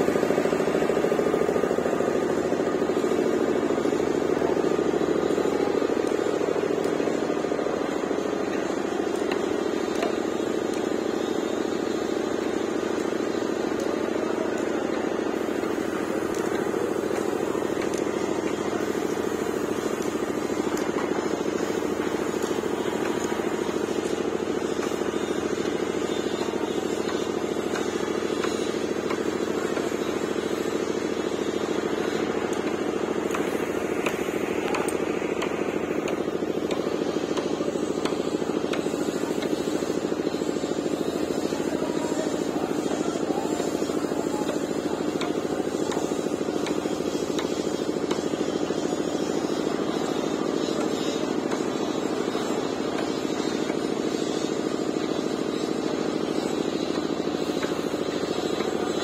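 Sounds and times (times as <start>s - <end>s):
motor droning: 0.0s - 59.0s.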